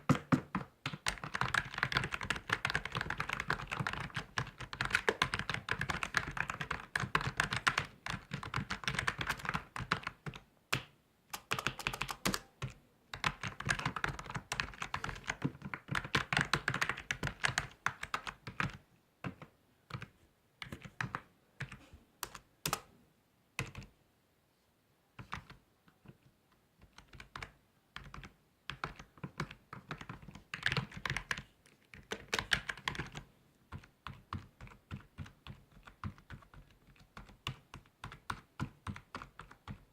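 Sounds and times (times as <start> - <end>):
computer keyboard typing: 0.0 - 22.9, 23.6 - 24.0, 25.2 - 39.9.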